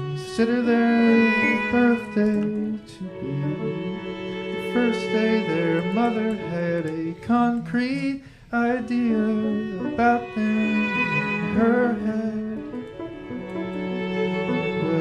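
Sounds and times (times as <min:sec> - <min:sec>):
held drone tones: 0:00.0 - 0:06.7, 0:08.8 - 0:15.0
person singing wavering notes: 0:00.0 - 0:07.1, 0:08.6 - 0:13.8
bowed strings playing: 0:00.0 - 0:07.9, 0:08.6 - 0:15.0.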